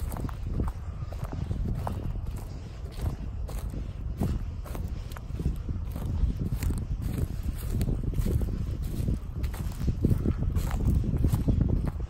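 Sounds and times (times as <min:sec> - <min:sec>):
footsteps on forest floor: 0:00.0 - 0:12.0
steady low rumble: 0:00.0 - 0:12.0.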